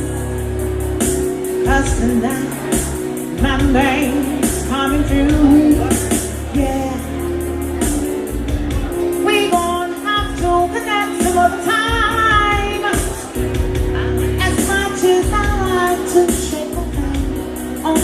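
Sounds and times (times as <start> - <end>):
live band with singing: 0.0 - 18.0.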